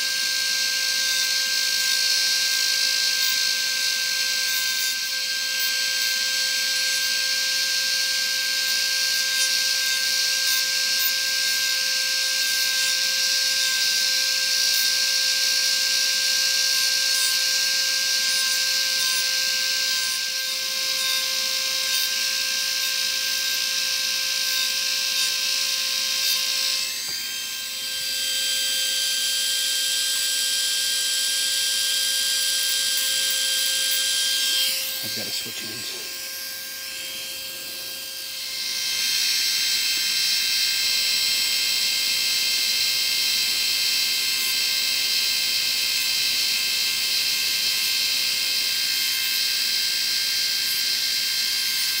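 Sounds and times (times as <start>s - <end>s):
rotary dental grinder whining: 0.0s - 52.0s.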